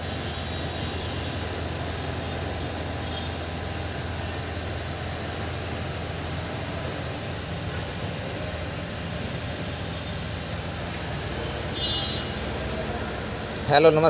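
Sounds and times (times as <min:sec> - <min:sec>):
hiss: 0:00.0 - 0:14.0
low mechanical hum: 0:00.0 - 0:14.0.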